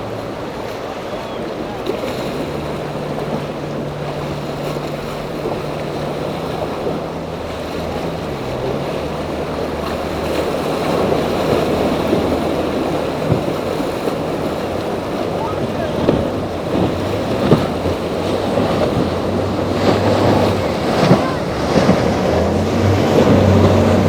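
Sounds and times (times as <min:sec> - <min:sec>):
boat engines droning: 0:00.0 - 0:24.0
surf washing: 0:00.0 - 0:24.0
wind on microphone: 0:01.4 - 0:24.0.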